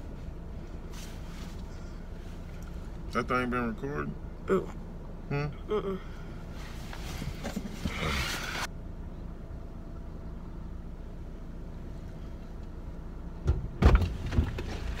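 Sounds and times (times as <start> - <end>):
car idling hum: 0.0 - 15.0.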